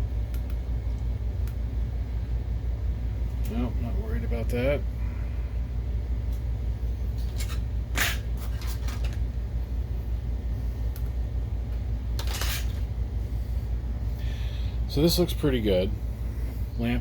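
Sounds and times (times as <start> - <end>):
projector cooling fans humming: 0.0 - 17.0.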